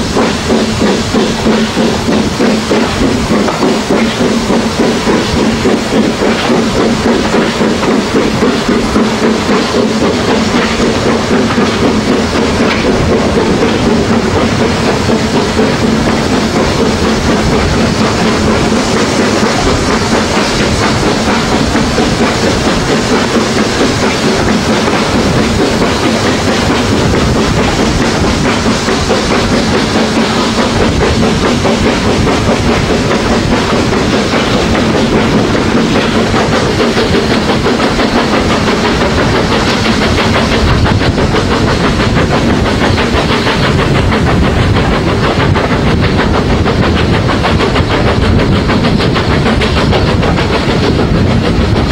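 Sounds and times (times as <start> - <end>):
train coaches rumbling: 0.0 - 51.9
wheels clickety-clack on rail joints: 0.0 - 51.9.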